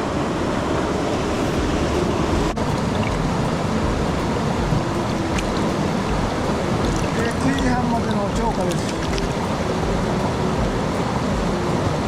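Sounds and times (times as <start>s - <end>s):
stream water rushing over rocks: 0.0s - 12.0s.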